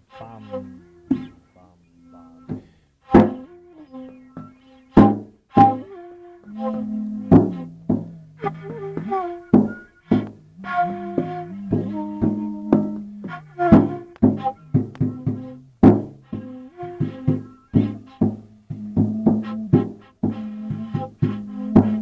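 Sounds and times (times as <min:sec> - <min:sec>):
sustained pitched notes: 0:00.0 - 0:22.0
percussive strikes: 0:00.2 - 0:01.4, 0:02.5 - 0:03.6, 0:04.2 - 0:22.0.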